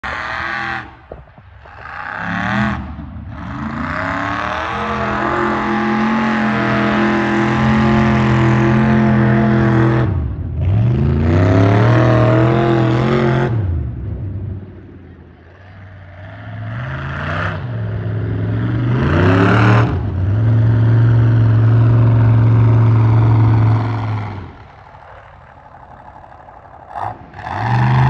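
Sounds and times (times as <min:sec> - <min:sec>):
truck engine revving hard: 0:00.0 - 0:14.6, 0:15.5 - 0:28.0.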